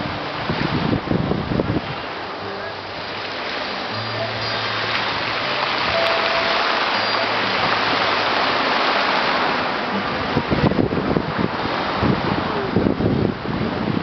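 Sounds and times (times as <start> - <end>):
wind gusts buffeting microphone: 0.0 - 6.0, 6.7 - 14.0.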